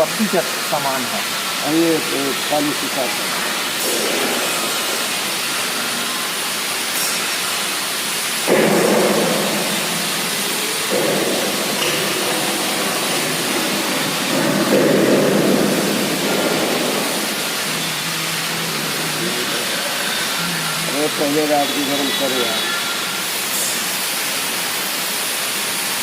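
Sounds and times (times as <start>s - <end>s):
gas torch flame hissing: 0.0s - 26.0s.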